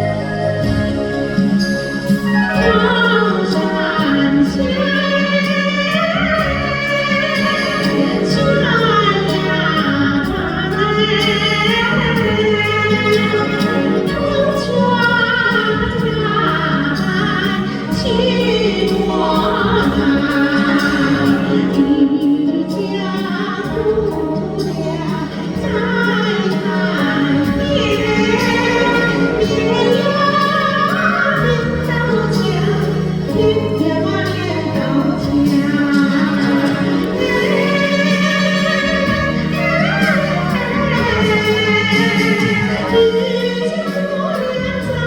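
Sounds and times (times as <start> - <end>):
instrumental accompaniment: 0.0 - 45.0
woman singing with vibrato: 0.0 - 45.0.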